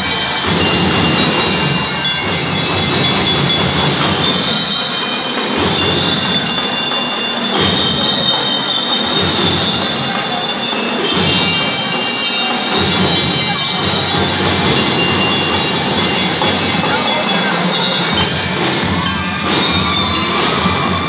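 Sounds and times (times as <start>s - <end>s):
bell lyre melody: 0.0s - 21.0s
drums: 0.0s - 21.0s.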